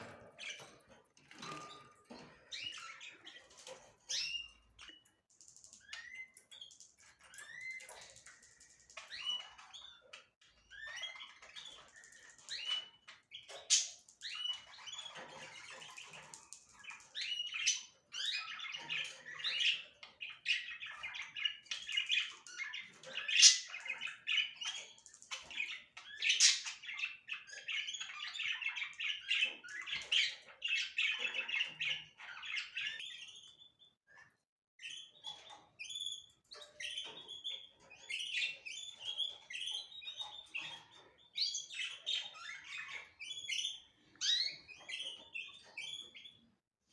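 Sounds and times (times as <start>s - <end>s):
cage birds chirping and chattering: 0.0s - 46.9s.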